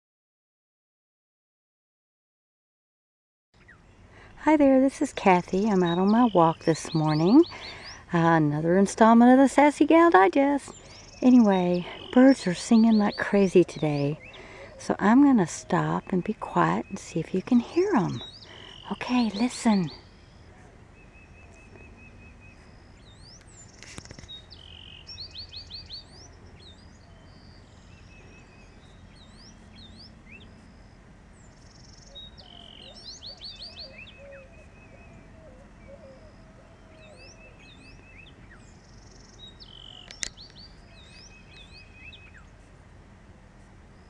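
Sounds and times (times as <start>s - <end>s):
bird chirps: 3.6s - 42.7s
songbird song of sweeping notes: 3.6s - 44.0s
bird trill: 4.5s - 42.6s.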